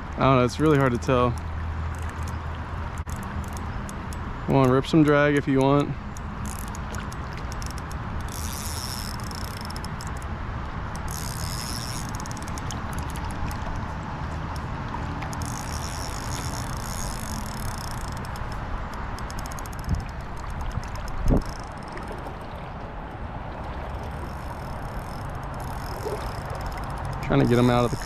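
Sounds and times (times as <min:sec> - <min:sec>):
fishing reel clicking: 0:00.5 - 0:02.4, 0:03.0 - 0:10.3, 0:10.9 - 0:13.9, 0:14.5 - 0:22.2, 0:23.8 - 0:28.0.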